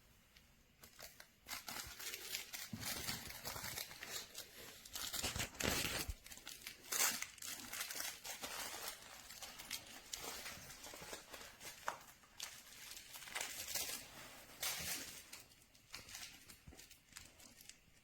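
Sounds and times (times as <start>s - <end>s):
crinkle dog toy crackling: 0.7s - 18.0s.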